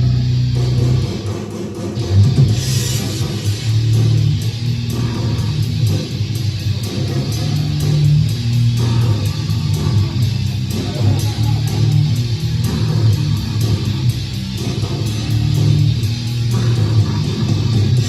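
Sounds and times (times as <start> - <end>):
distorted guitar and bass riffing: 0.0 - 18.0
drum and cymbal hits: 0.0 - 18.0.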